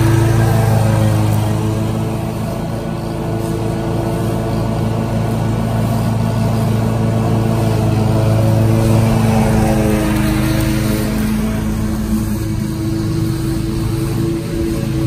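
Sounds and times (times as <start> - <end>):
mower engine droning: 0.0 - 15.0.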